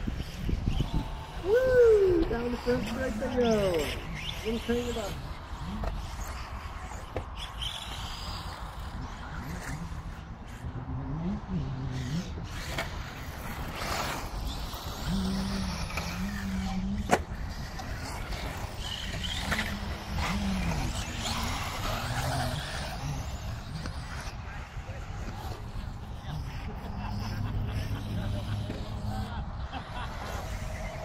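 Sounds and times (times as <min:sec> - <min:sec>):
rc car motors whining: 0:00.0 - 0:31.0.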